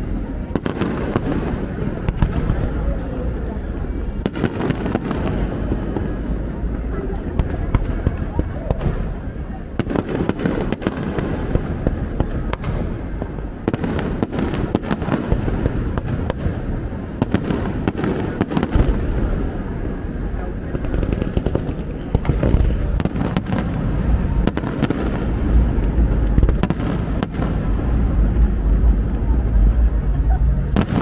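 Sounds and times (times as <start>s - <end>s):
fireworks bangs and crackles: 0.0s - 31.0s
fireworks rumble: 0.0s - 31.0s.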